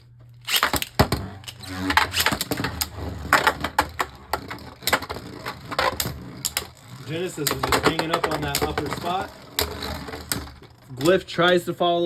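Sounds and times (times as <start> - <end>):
spinning tops clashing and rattling: 0.5 - 11.6.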